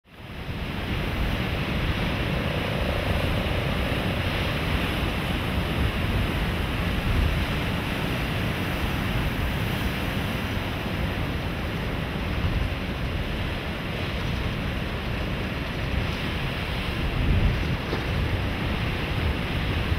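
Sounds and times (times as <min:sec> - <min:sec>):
sea waves and surf: 0:00.0 - 0:19.9
wind rumbling on microphone: 0:00.1 - 0:19.9.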